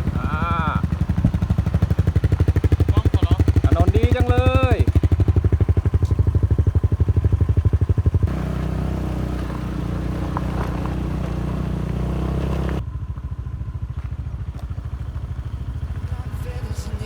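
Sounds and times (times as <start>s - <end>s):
motorcycle riding along road: 0.0s - 17.0s.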